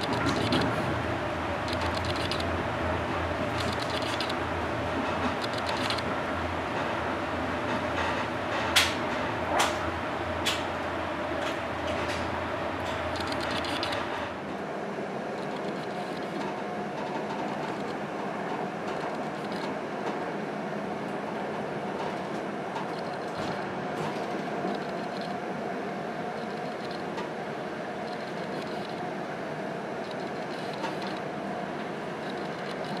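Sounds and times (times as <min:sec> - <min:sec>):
train rumble and hum: 0:00.0 - 0:33.0.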